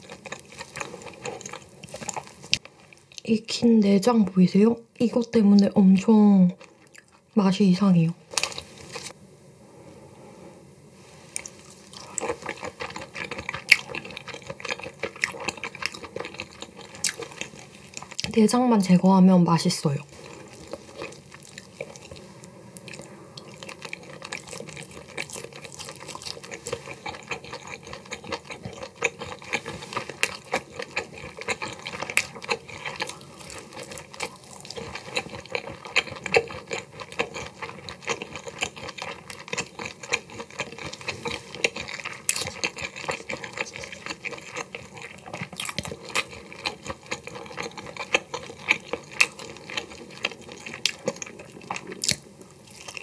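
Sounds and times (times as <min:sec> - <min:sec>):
wet chewing and mouth smacking: 0:00.0 - 0:03.3, 0:06.5 - 0:07.2, 0:08.3 - 0:09.1, 0:11.4 - 0:18.4, 0:20.2 - 0:53.0.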